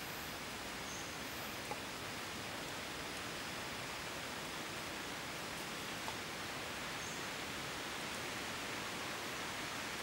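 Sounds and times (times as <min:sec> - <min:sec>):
forest background hiss: 0:00.0 - 0:10.0.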